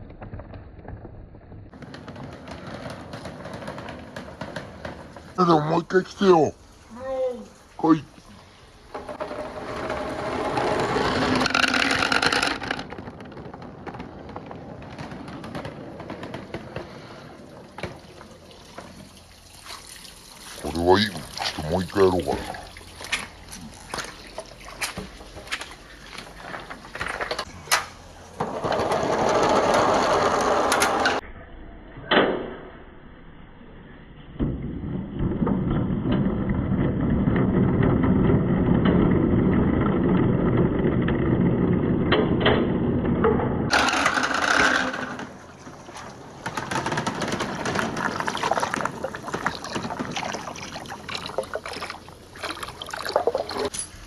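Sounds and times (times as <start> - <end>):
marbles rolling and clacking: 0.0 - 6.2, 8.9 - 19.4, 21.6 - 27.5, 28.4 - 31.2, 35.2 - 54.0
marbles rolling rumble: 0.0 - 6.8, 8.7 - 31.2, 34.4 - 53.8.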